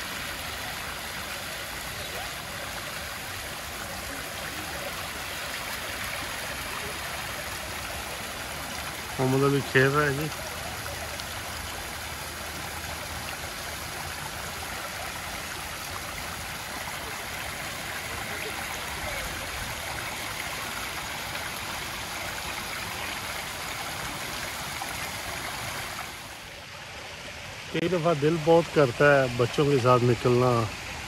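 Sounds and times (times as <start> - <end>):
water splashing down cascade: 0.0 - 31.0.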